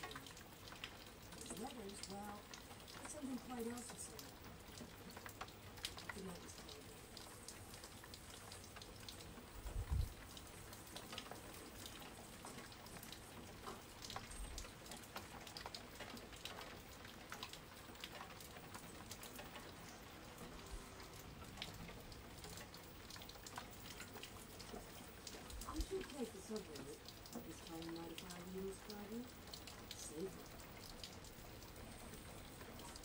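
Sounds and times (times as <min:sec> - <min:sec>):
raindrops ticking: 0:00.0 - 0:33.0.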